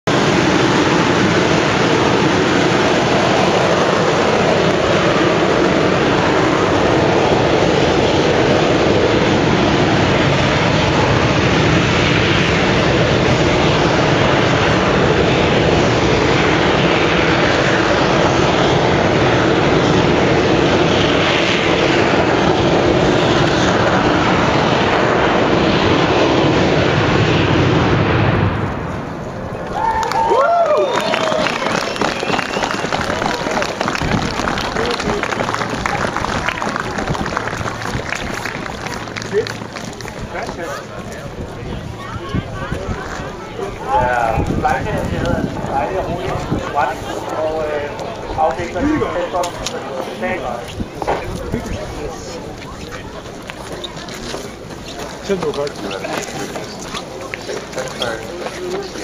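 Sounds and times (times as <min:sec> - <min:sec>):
rocket engine exhaust roar: 0:00.0 - 0:59.0.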